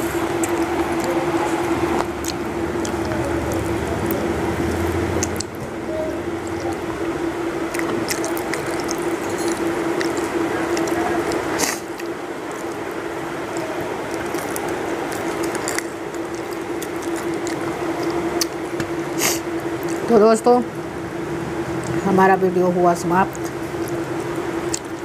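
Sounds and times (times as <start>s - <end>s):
chewing and crunching bones: 0.0s - 20.2s, 23.2s - 25.0s
low hum: 0.0s - 25.0s.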